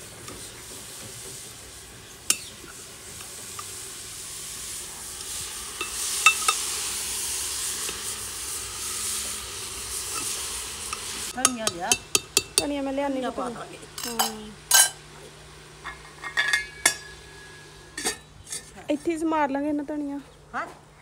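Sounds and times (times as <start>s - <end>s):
food frying in oil: 0.0s - 18.1s.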